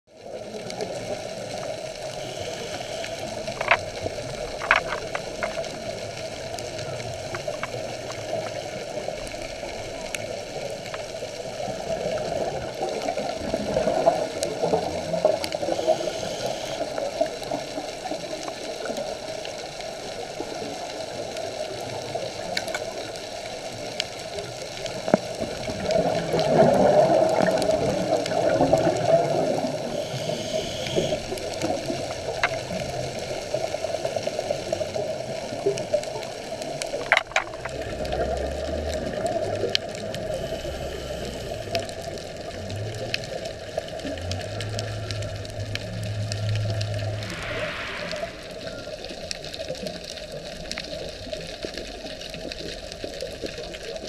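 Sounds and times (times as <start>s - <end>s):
underwater gurgling and bubbles: 0.1s - 54.0s.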